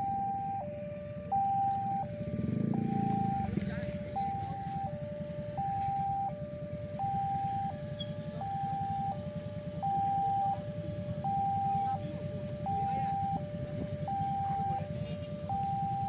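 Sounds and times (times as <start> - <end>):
low engine-like rumble: 0.0 - 16.0
two-tone crossing warning siren: 0.0 - 16.0.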